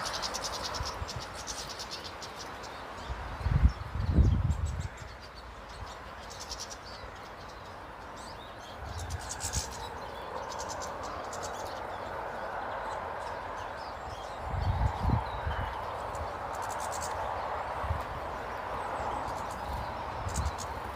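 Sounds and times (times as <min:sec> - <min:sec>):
small birds trilling: 0:00.0 - 0:20.9.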